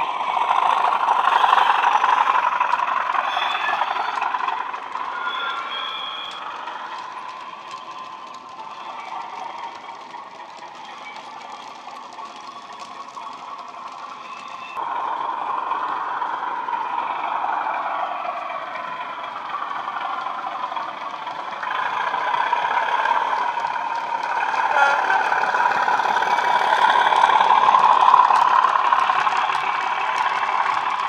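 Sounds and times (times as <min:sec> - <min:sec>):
model diesel locomotive engine: 0:00.0 - 0:31.0.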